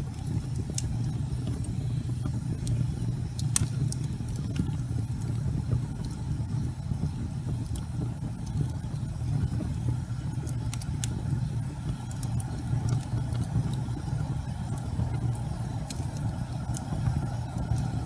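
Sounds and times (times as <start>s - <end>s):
flames rumbling: 0.0s - 18.0s
wood crackling and popping: 0.0s - 18.0s.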